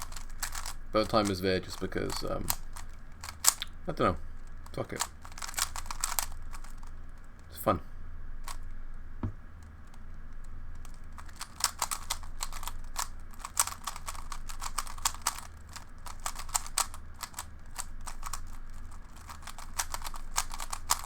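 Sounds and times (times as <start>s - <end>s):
plastic puzzle cube clicking: 0.0s - 3.8s, 4.7s - 7.5s, 9.6s - 21.0s.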